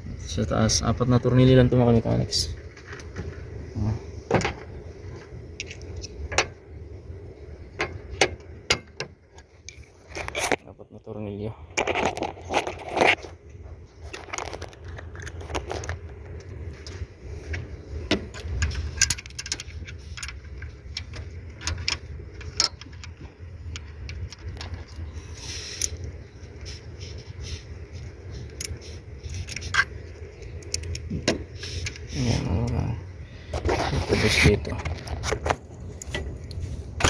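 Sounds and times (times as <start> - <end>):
steady low rumble: 0.0 - 37.0.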